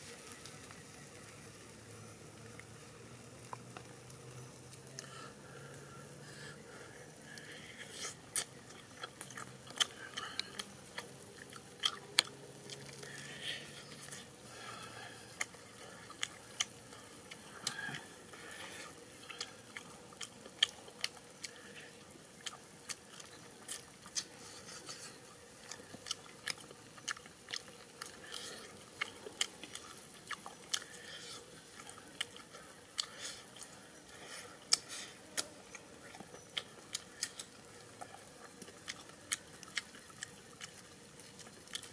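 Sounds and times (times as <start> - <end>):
person chewing crunchy food: 7.3 - 41.9.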